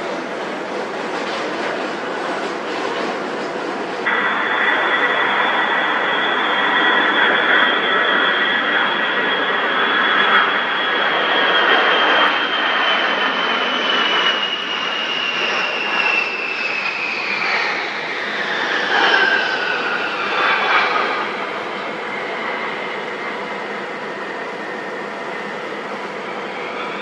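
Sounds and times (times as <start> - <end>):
jet engines roaring with high whine: 0.0 - 27.0.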